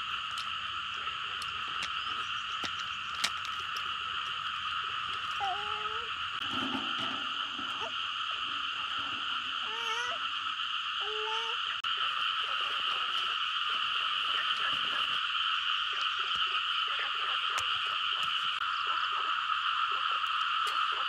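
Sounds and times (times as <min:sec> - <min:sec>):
frogs trilling: 0:00.0 - 0:21.0.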